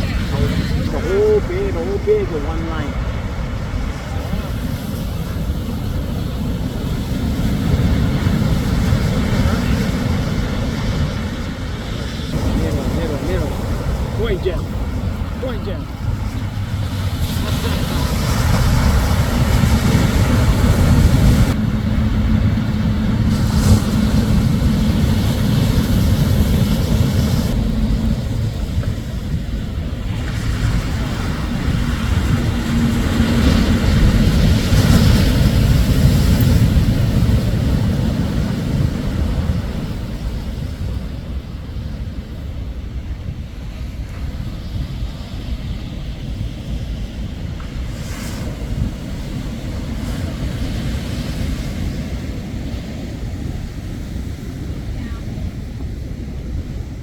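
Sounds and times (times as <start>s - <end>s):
waves crashing on beach: 0.0s - 57.0s
wind rumbling on microphone: 0.0s - 57.0s.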